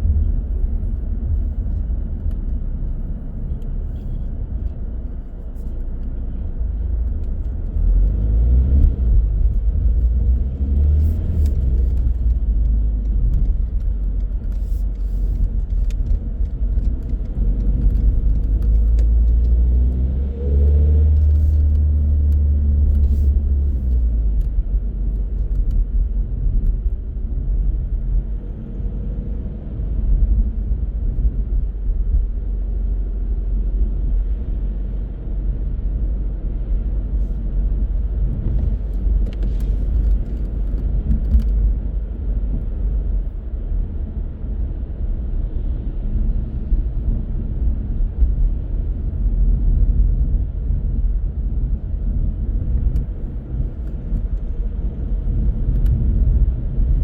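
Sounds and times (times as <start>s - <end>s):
car tyre and engine rumble: 0.0s - 57.0s.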